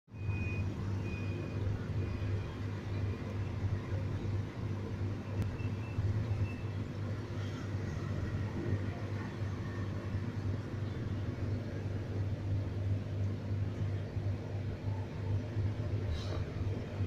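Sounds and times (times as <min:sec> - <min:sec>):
aquarium pump humming: 0:00.1 - 0:17.0.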